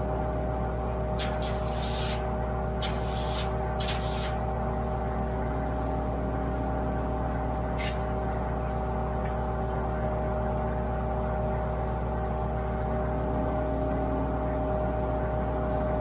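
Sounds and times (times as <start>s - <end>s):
wood chipper droning: 0.0s - 16.0s.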